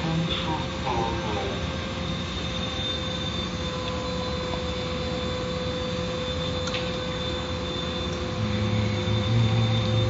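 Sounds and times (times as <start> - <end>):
constant hum: 0.0 - 10.0.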